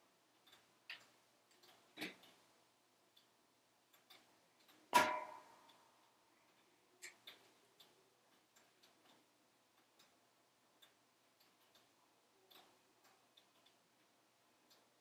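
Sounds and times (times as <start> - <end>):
wood crackling in a stove: 0.0 - 15.0.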